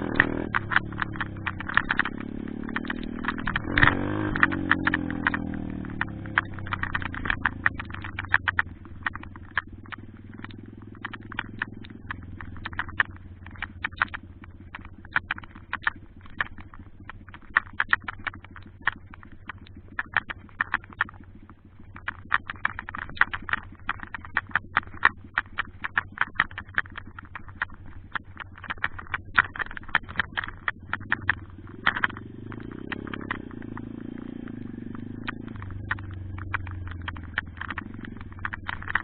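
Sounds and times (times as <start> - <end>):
pitbike engine humming: 0.0 - 39.0
sharp irregular clicks and rattles: 0.0 - 39.0.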